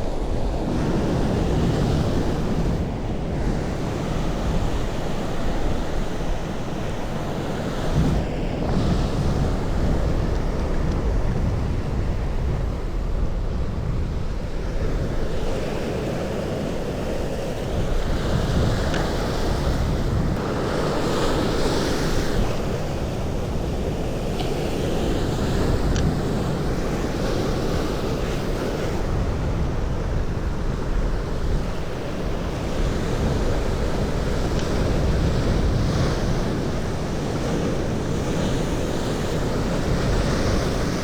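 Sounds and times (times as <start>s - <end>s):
sea waves washing on shore: 0.0s - 41.0s
wind buffeting microphone: 0.0s - 41.0s.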